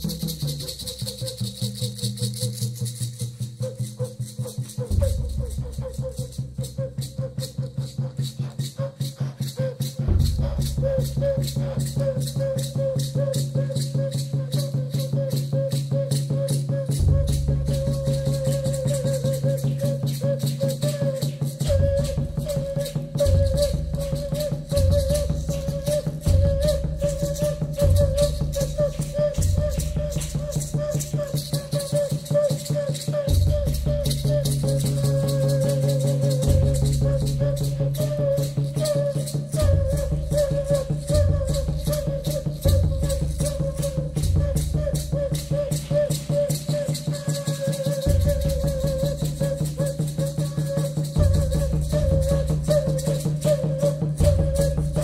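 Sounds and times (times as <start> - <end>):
rattle shaken rhythmically: 0.0 - 55.0
wavering held tone: 0.0 - 55.0.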